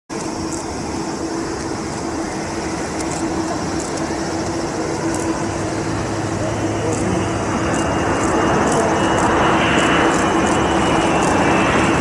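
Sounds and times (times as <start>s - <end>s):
jet engine roar: 0.1s - 12.0s.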